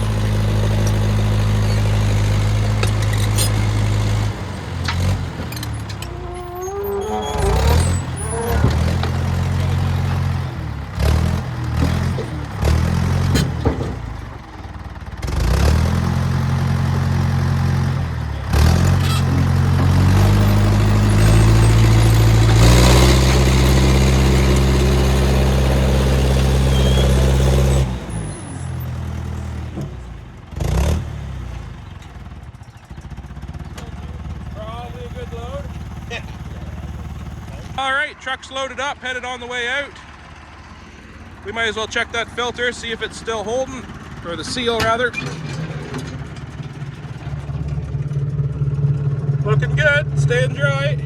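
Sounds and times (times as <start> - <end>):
loader engine revving under load: 0.0 - 37.8, 39.6 - 51.0.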